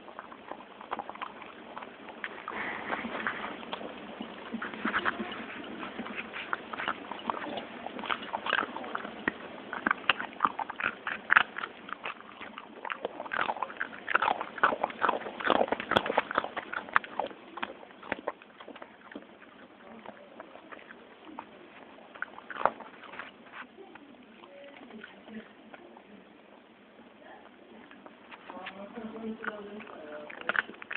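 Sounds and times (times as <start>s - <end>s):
dog chewing treats: 0.0s - 26.6s, 27.4s - 30.9s.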